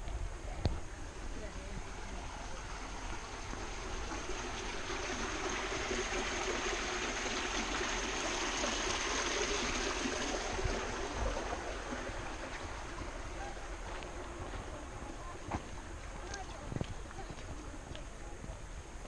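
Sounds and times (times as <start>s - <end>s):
creek trickling over stones: 1.1s - 19.0s.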